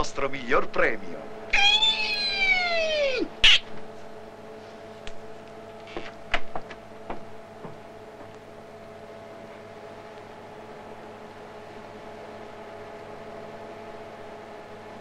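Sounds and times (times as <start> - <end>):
computer room machinery hum: 0.0 - 15.0.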